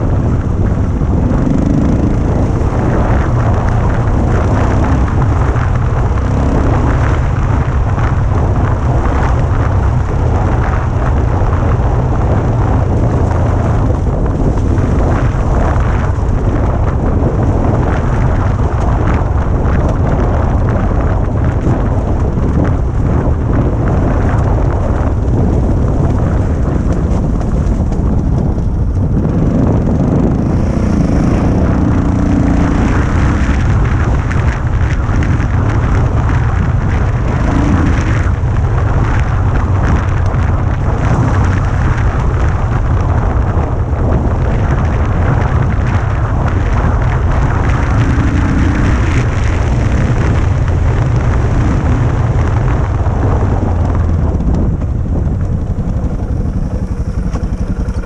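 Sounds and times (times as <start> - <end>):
motorcycle engine running: 0.0 - 58.0
wind rumble on microphone: 0.0 - 58.0.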